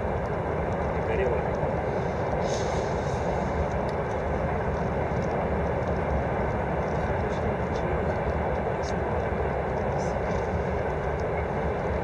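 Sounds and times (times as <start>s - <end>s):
campfire crackling: 0.0s - 12.0s
steady rushing noise: 0.0s - 12.0s.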